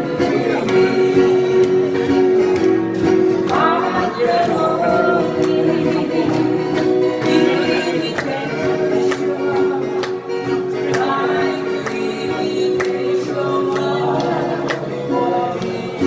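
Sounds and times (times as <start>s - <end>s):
men singing: 0.0s - 2.4s, 3.1s - 16.0s
acoustic guitars strummed: 0.0s - 16.0s.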